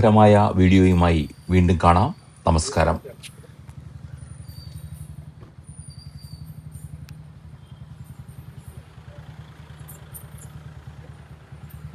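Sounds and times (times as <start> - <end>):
vehicle engine idling: 0.0 - 11.9.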